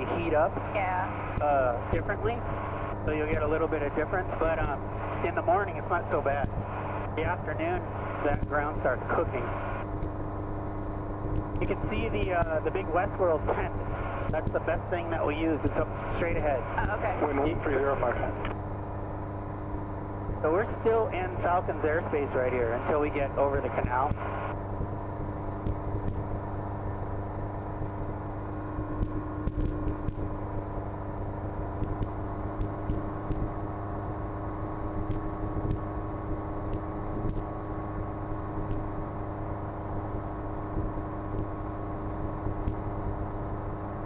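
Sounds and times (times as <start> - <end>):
helicopter engine and rotors droning: 0.0 - 44.0.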